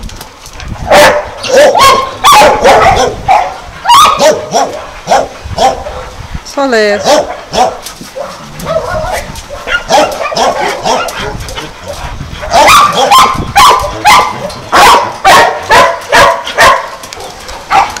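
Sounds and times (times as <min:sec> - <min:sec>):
dogs barking and yipping: 0:00.8 - 0:18.0.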